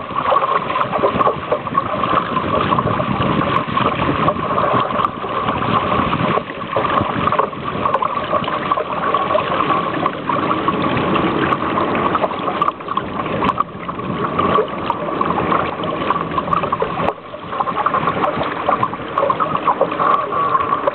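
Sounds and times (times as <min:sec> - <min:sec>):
water rushing along hull: 0:00.0 - 0:20.9.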